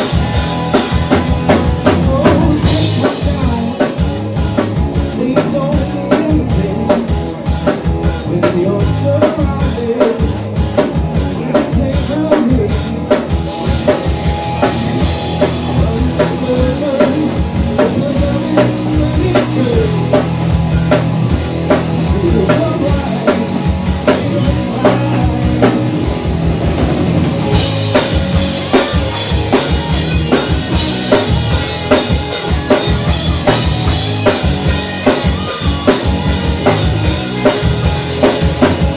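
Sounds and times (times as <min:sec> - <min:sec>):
busy drum kit: 0:00.0 - 0:38.9
live rock band playing: 0:00.0 - 0:38.9.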